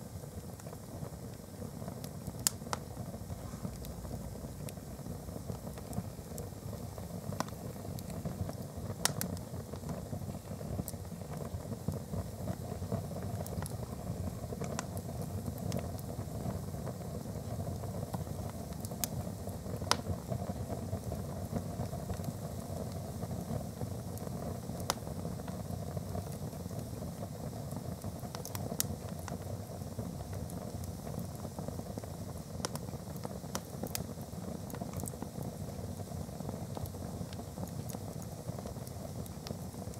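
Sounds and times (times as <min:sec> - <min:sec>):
fire crackles and pops: 0:00.0 - 0:39.9
fire rushing: 0:00.0 - 0:39.9.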